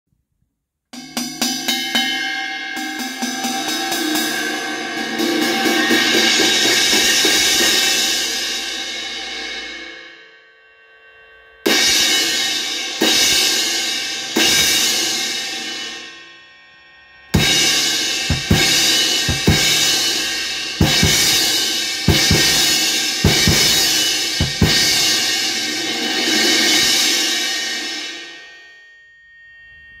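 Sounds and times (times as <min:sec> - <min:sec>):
crash cymbal struck with drumstick: 0:01.0 - 0:10.2, 0:11.7 - 0:16.5, 0:17.2 - 0:28.7.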